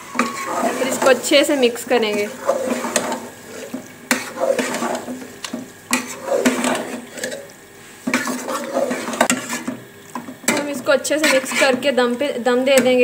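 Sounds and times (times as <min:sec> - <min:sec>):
spoon stirring thick mash in pot: 0:00.0 - 0:11.9.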